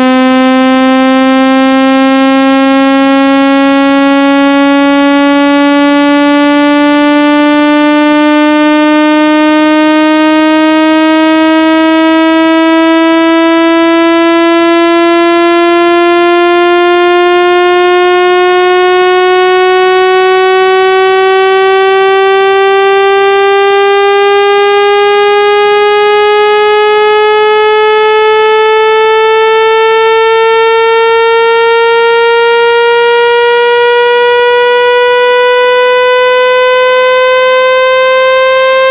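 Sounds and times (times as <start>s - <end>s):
buzzy test tone rising in pitch: 0.0s - 38.9s.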